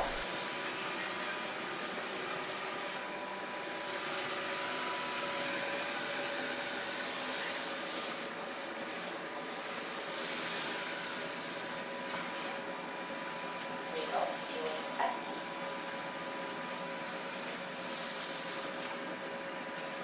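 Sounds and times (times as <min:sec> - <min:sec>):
robot vacuum motor whirring: 0:00.0 - 0:20.0.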